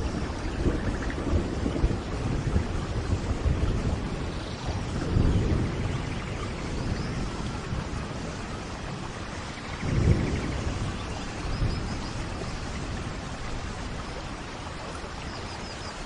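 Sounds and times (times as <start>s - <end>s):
rolling thunder: 0.0s - 14.5s
steady rain: 0.0s - 16.0s.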